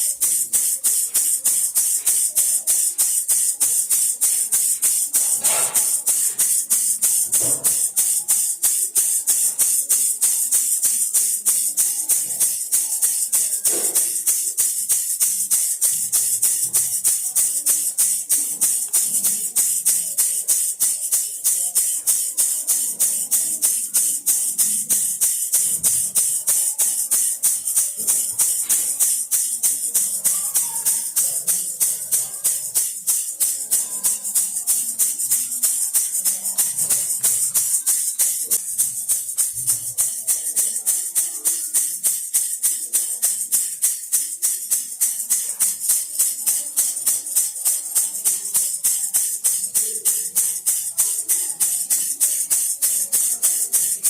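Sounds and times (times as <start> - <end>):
baby rattle shaking: 0.0 - 54.0.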